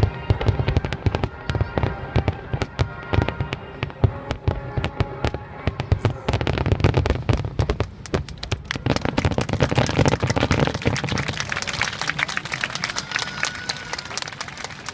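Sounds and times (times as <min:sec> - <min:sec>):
fireworks bangs and crackling: 0:00.0 - 0:14.9.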